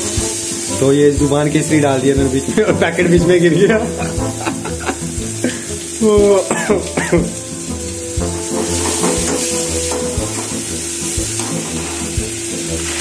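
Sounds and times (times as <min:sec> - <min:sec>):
background music with steady beat: 0:00.0 - 0:13.0
masala sizzling in hot oil: 0:00.0 - 0:13.0.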